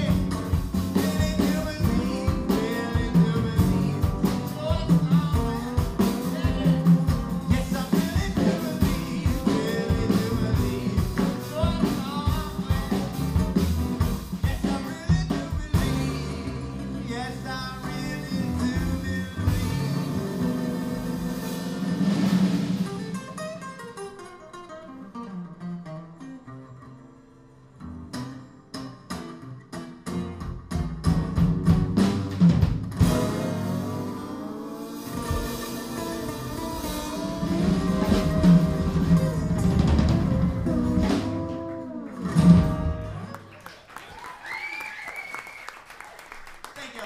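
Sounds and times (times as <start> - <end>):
acoustic guitars playing: 0.0 - 43.6.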